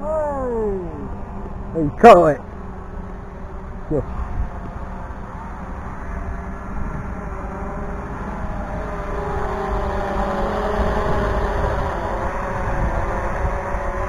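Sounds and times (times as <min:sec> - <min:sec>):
drone propeller whine: 0:00.0 - 0:14.0
wind rumble on microphone: 0:02.7 - 0:14.0.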